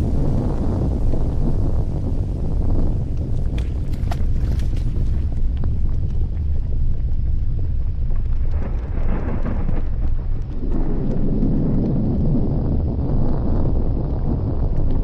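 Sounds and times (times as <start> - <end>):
faint crackles: 0.0 - 15.0
volcanic eruption rumbling: 0.0 - 15.0.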